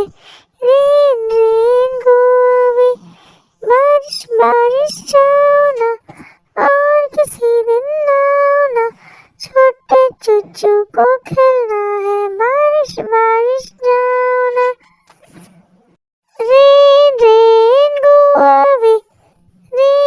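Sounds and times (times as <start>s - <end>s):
child-like voice singing: 0.0s - 14.8s, 16.3s - 19.1s, 19.7s - 20.0s.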